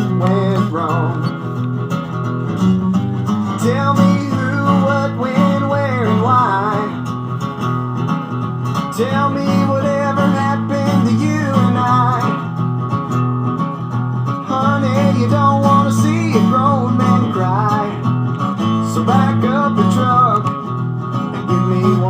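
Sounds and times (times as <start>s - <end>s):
country song with full band: 0.0s - 13.0s, 13.9s - 22.0s
strummed acoustic guitar: 0.0s - 22.0s.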